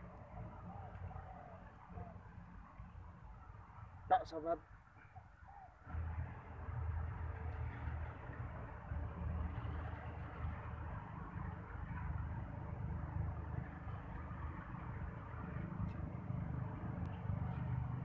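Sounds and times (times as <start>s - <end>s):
low outdoor background rumble: 0.0s - 18.0s.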